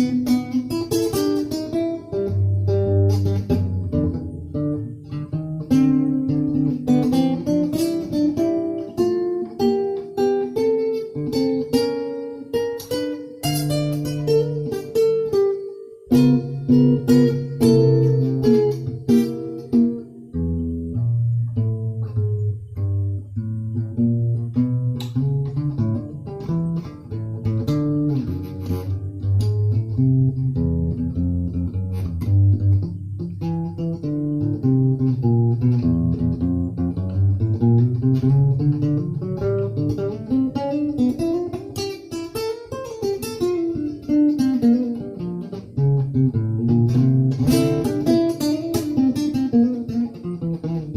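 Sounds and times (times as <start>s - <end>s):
plucked guitar music: 0.0s - 50.9s.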